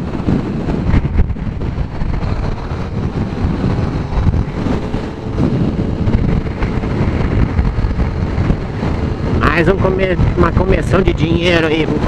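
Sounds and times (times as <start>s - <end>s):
motorcycle engine droning: 0.0s - 12.0s
wind buffeting microphone: 0.0s - 12.0s.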